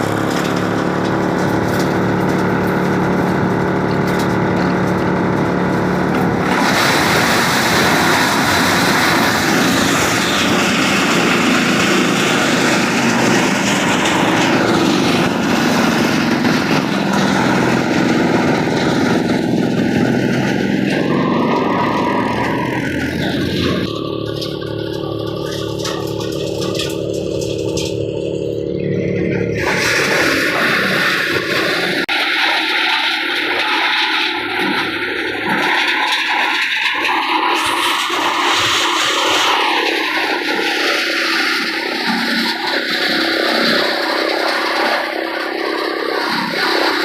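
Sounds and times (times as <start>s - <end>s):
tractor engine running: 0.0s - 47.0s
wood chipper cutting wood: 0.0s - 47.0s.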